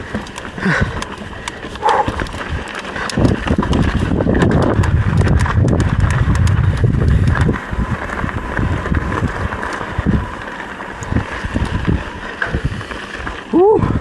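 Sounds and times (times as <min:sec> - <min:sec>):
bike frame rattling: 0:00.0 - 0:14.0
wind rumble on microphone: 0:00.0 - 0:14.0.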